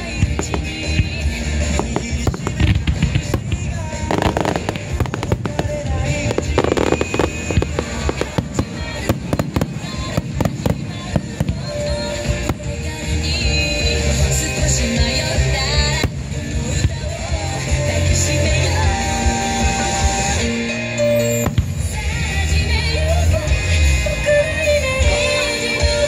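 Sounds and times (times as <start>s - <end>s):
fireworks bursting with bangs: 0.0s - 26.0s
music playing: 0.0s - 26.0s.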